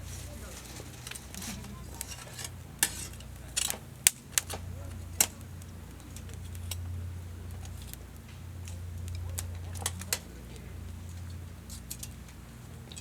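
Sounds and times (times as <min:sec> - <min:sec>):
steady low hum: 0:00.0 - 0:13.0
wood fire crackling: 0:00.0 - 0:13.0.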